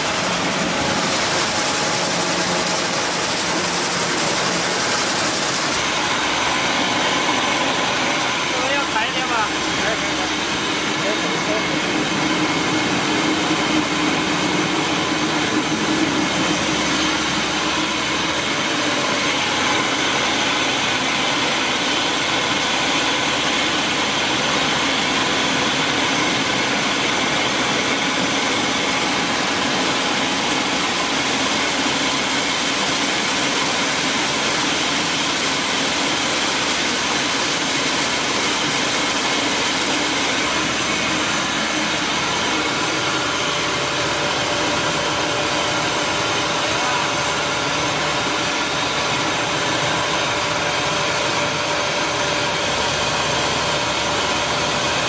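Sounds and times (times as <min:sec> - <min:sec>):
milling machinery running: 0:00.0 - 0:55.0.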